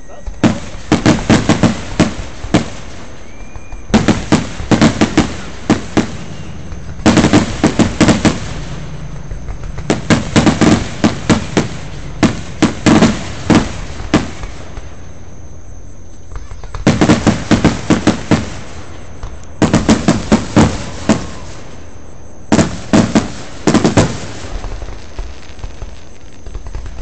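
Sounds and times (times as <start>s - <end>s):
fireworks bangs: 0.0s - 27.0s.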